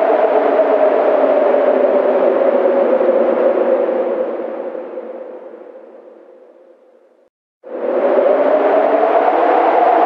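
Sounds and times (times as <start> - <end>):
blizzard wind howling: 0.0 - 10.0.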